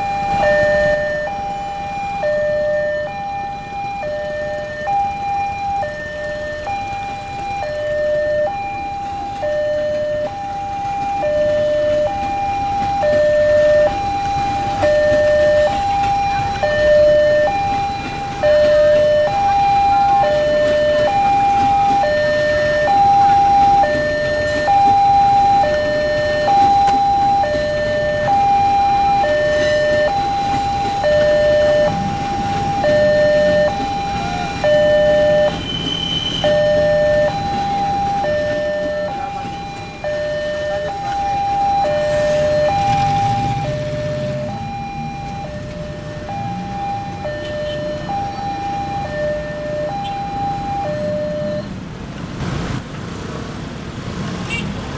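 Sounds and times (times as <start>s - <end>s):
two-tone crossing alarm: 0.0s - 51.9s.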